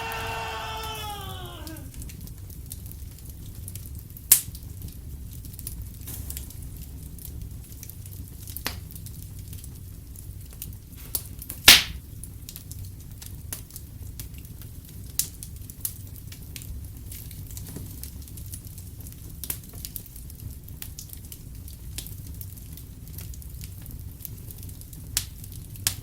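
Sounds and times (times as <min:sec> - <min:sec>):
wood fire crackling: 0:00.0 - 0:26.0
fire pops and snaps: 0:02.0 - 0:26.0.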